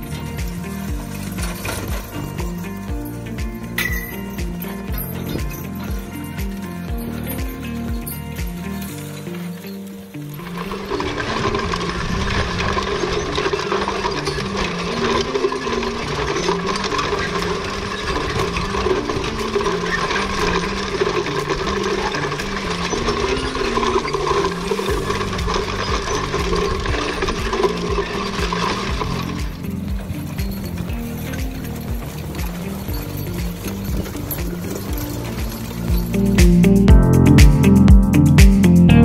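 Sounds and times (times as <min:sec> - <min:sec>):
grain drill rattling: 0:00.0 - 0:37.3.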